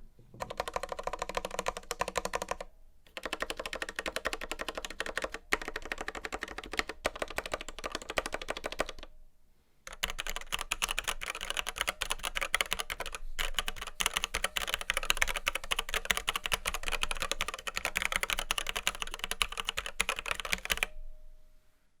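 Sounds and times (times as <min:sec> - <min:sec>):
typing on mechanical keyboard: 0:00.4 - 0:09.1, 0:09.9 - 0:21.0.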